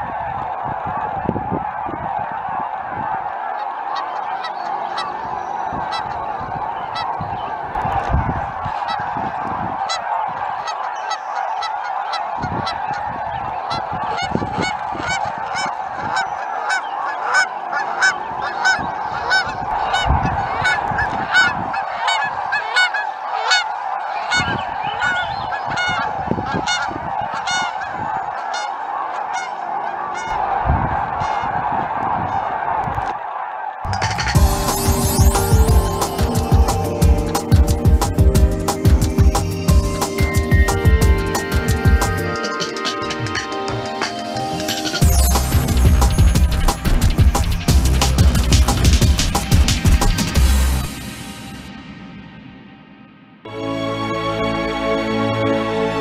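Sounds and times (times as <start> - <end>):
geese honking: 0.0 - 48.9.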